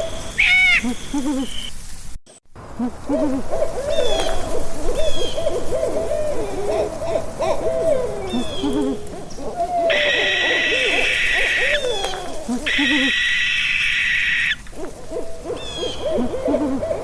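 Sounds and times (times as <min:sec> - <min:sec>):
owls hooting: 0:00.0 - 0:01.7, 0:02.6 - 0:17.0.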